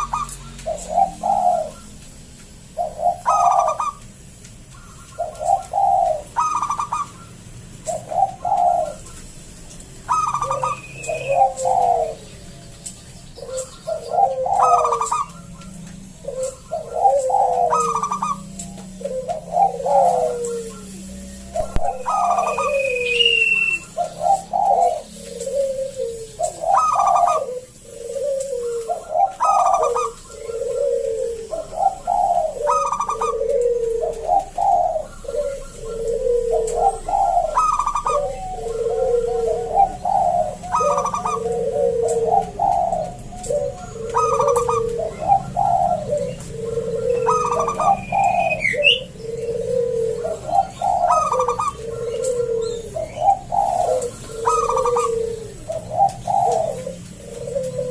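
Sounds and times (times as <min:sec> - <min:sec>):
dove cooing: 0:00.0 - 0:57.9.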